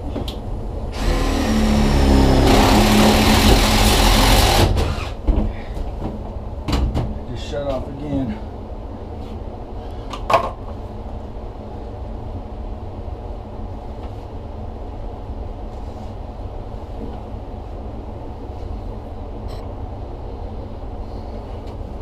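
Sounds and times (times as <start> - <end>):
furnace blower running: 0.0 - 19.4.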